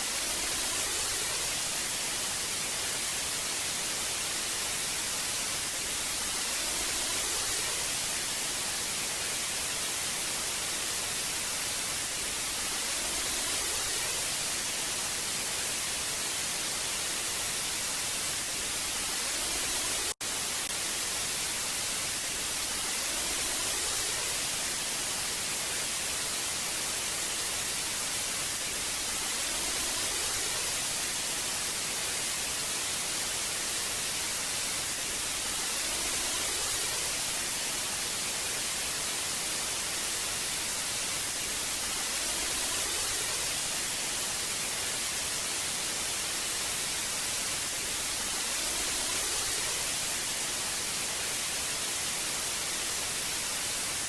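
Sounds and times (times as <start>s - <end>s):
television static hiss: 0.0s - 54.0s.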